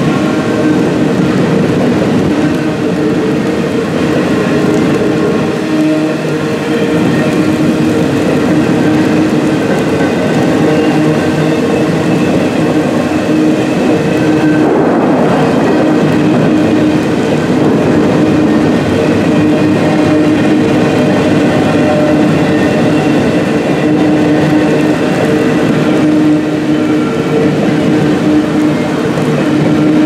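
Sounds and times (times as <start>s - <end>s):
constant humming tone: 0.0s - 30.0s
train wheels on rail: 0.0s - 30.0s.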